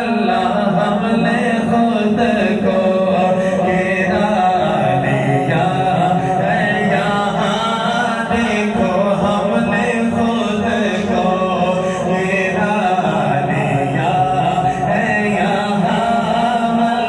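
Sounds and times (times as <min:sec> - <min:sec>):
man singing through a microphone: 0:00.0 - 0:17.0.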